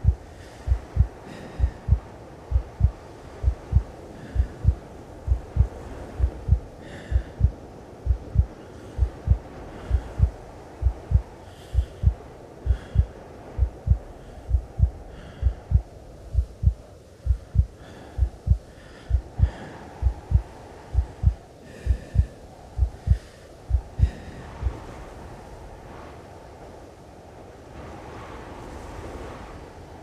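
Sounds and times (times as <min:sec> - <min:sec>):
heartbeat thumps: 0:00.0 - 0:24.8
low hum: 0:00.0 - 0:25.0.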